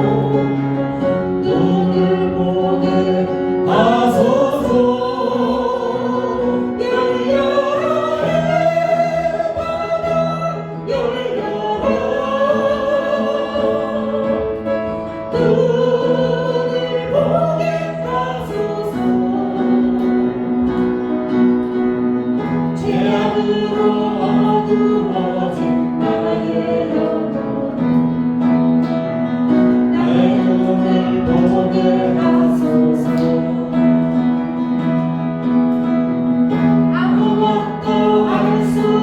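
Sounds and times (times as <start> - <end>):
group of voices singing: 0.0 - 21.0, 22.7 - 28.4, 29.6 - 34.6, 36.9 - 39.0
instrumental accompaniment: 0.0 - 39.0.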